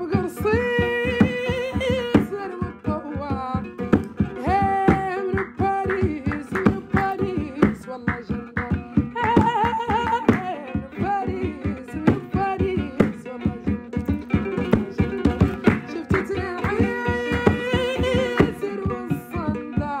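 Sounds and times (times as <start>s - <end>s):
plucked strings: 0.0s - 20.0s
quick steady beat: 0.0s - 20.0s
woman singing: 0.0s - 20.0s.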